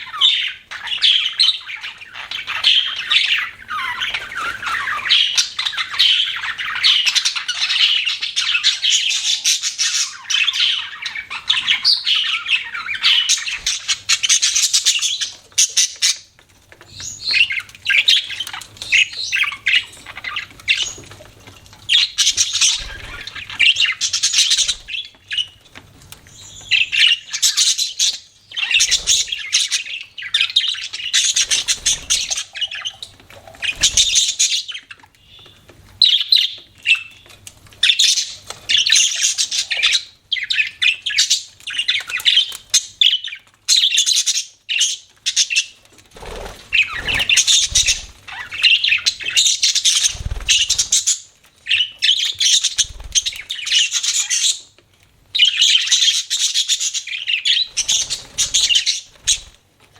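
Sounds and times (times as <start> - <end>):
budgerigars chirping and chattering: 0.0 - 59.6.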